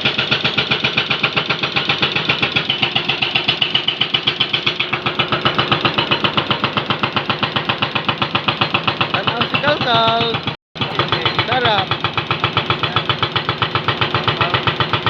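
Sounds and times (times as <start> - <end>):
hydraulic breaker hammering road: 0.0 - 15.0.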